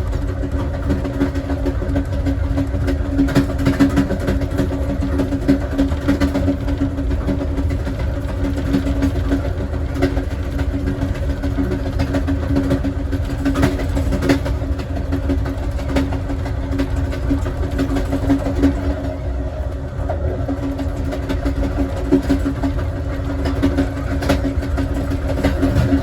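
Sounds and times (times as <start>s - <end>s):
constant hum: 0.0s - 26.0s
train wheels rumbling on track: 0.0s - 26.0s.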